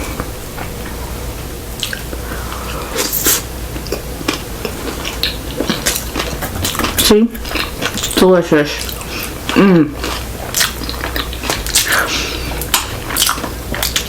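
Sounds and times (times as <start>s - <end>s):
person chewing wetly: 1.8s - 14.0s.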